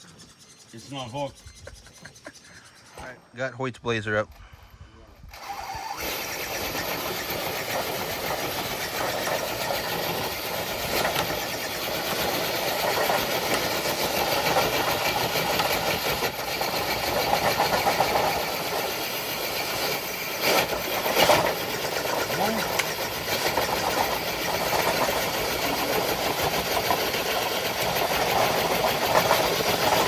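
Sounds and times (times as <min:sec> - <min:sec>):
toy truck motor running: 0:05.2 - 0:30.0
sled scraping along: 0:05.3 - 0:30.0.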